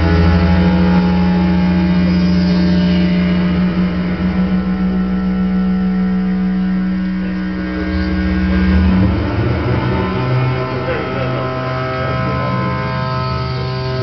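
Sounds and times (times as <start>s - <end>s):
faint pulsing: 0.0s - 14.0s
synthesizer drone: 0.0s - 14.0s.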